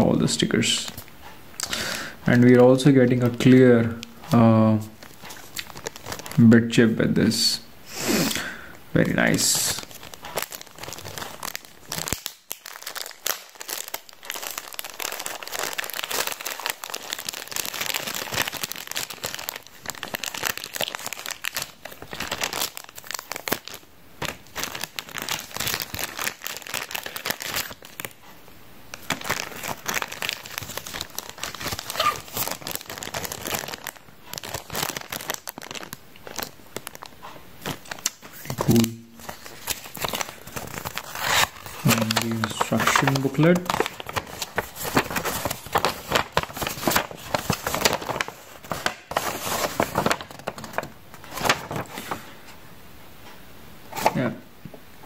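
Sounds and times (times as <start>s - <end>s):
plastic bags crinkling: 2.2s - 6.6s, 9.0s - 28.3s, 28.9s - 52.4s.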